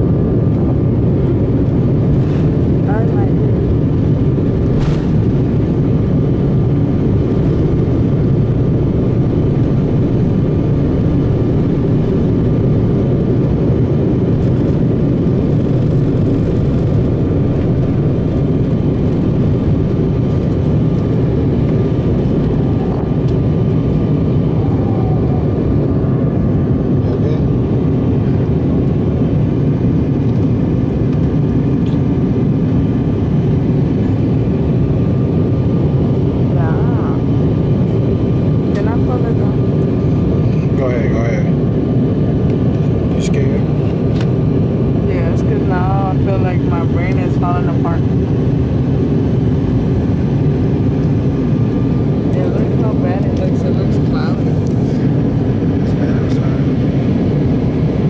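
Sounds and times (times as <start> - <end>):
jet engine rumble and airflow: 0.0 - 58.0.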